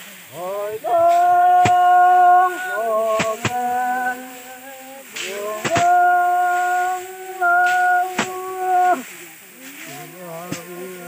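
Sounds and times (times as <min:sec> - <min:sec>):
voices humming long notes: 0:00.3 - 0:11.0
stalks whacking threshing floor: 0:00.9 - 0:04.5, 0:05.1 - 0:11.0.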